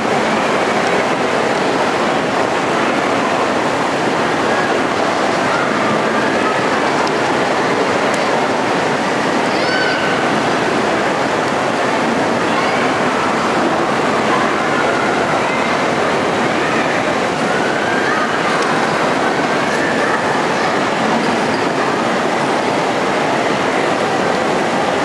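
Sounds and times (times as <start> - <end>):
distant crowd voices: 0.0 - 25.0
faint higher voices: 0.0 - 25.0.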